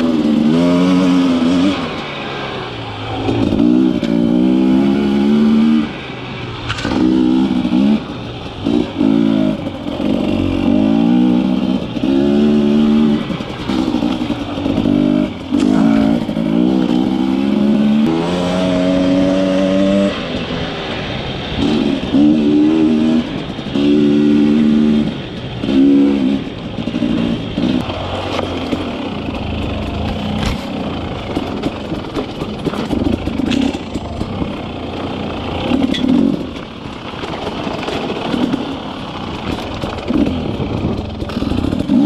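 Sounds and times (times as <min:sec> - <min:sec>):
quad bike engine revving: 0:00.0 - 0:42.0.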